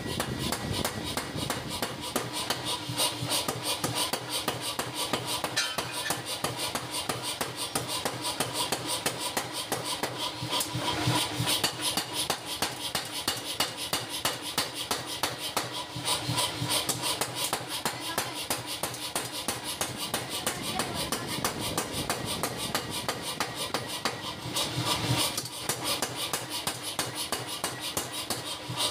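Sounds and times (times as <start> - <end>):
power hammer pounding metal: 0.0 - 28.9.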